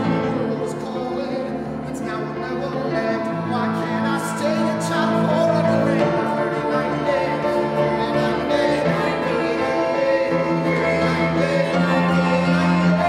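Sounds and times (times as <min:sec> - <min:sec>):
cast singers singing: 0:00.0 - 0:13.0
instrumental accompaniment: 0:00.0 - 0:13.0.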